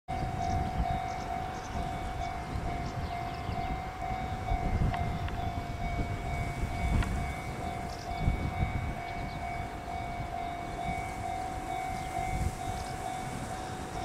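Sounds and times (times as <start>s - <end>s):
high warning tone: 0.1s - 14.0s
wind on microphone: 0.1s - 14.0s.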